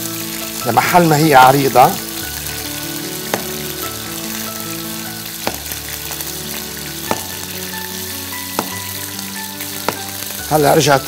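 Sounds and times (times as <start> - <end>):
frying sizzle: 0.0 - 11.0
soft background music: 0.0 - 11.0.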